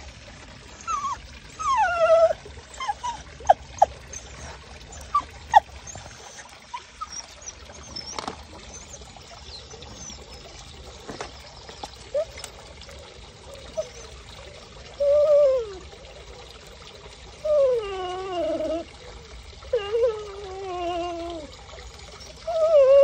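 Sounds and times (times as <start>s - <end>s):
faint water trickle: 0.0s - 23.0s
dog whining and whimpering: 0.7s - 12.7s, 13.5s - 16.0s, 17.3s - 18.9s, 19.6s - 23.0s.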